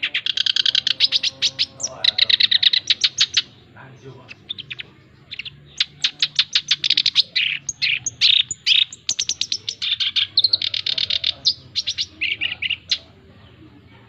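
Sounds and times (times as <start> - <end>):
reed warbler singing: 0.0 - 14.0.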